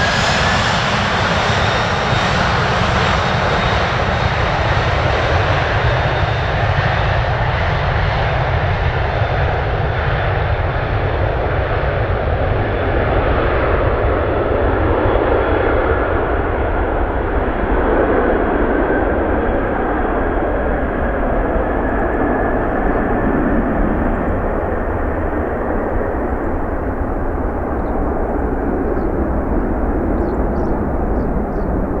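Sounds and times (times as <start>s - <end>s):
jet engines roaring: 0.0s - 6.8s, 12.0s - 32.0s.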